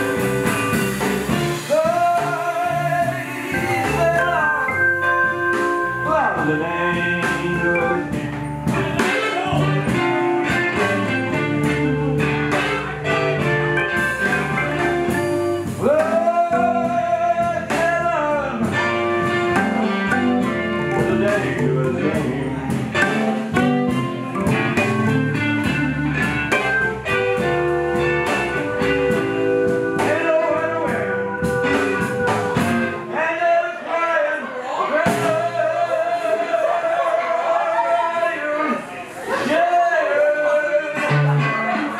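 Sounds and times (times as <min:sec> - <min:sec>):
electric guitar: 0:00.0 - 0:33.1, 0:40.9 - 0:41.9
blues band playing live: 0:00.0 - 0:33.6, 0:34.9 - 0:41.9
person singing: 0:01.3 - 0:26.3, 0:27.1 - 0:41.9.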